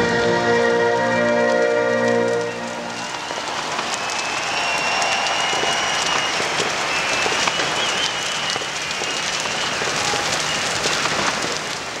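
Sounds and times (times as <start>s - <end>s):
fire crackling and popping: 1.0s - 12.0s.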